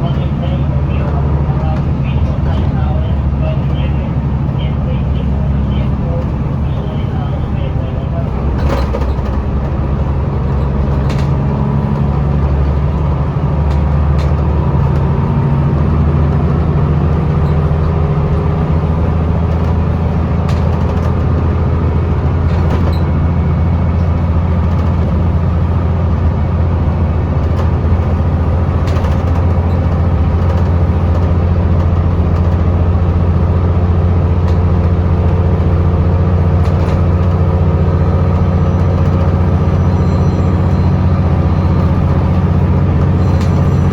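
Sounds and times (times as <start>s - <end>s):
bus diesel engine running: 0.0s - 43.9s.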